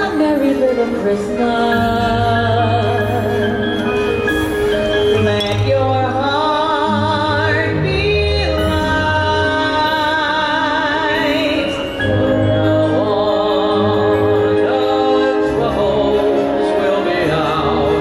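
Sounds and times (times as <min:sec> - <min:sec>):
woman singing with vibrato: 0:00.0 - 0:04.0, 0:05.0 - 0:18.0
amplified instrumental accompaniment: 0:00.0 - 0:18.0.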